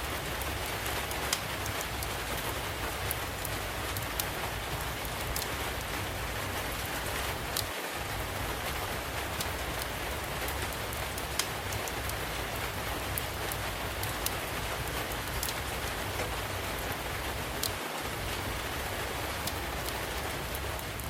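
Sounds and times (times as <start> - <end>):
steady rain falling: 0.0 - 21.0
wood fire crackling and popping: 0.2 - 7.8, 8.5 - 21.0.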